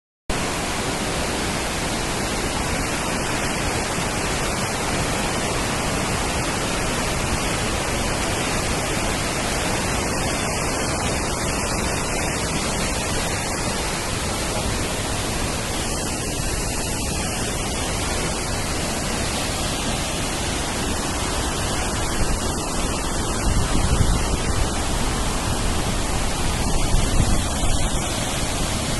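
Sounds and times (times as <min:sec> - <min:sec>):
waterfall rushing: 0:00.3 - 0:28.9.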